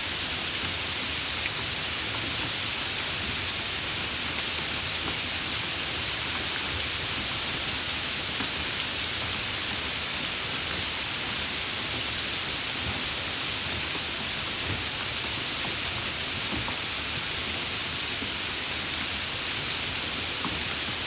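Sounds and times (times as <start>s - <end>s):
gentle rain falling: 0.0s - 21.0s.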